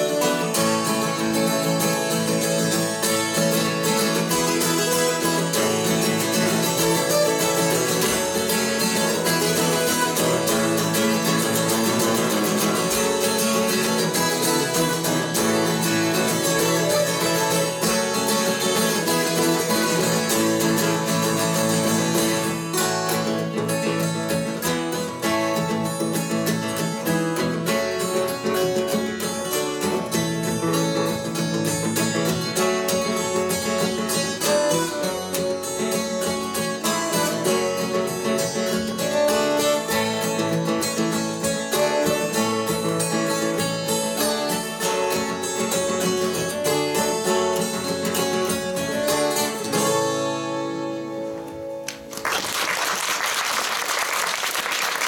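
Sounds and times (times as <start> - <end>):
acoustic guitars playing: 0.0 - 55.0.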